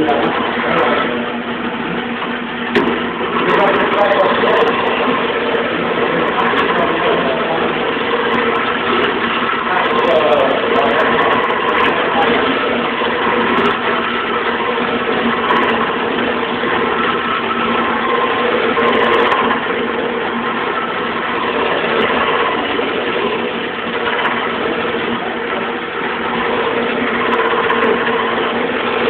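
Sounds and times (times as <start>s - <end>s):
chisel scraping spinning wood: 0.0s - 29.0s
lathe motor humming: 0.0s - 29.0s.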